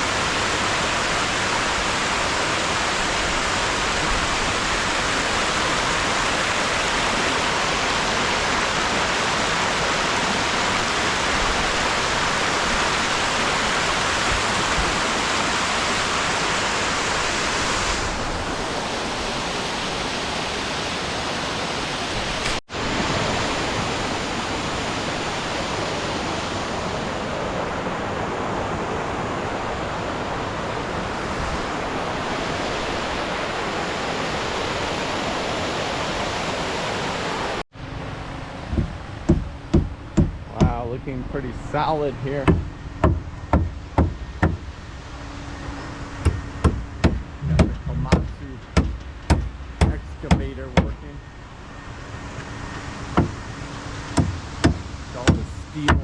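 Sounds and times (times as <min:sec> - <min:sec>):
falling water rushing: 0:00.0 - 0:37.7, 0:39.3 - 0:51.1, 0:52.5 - 0:56.0.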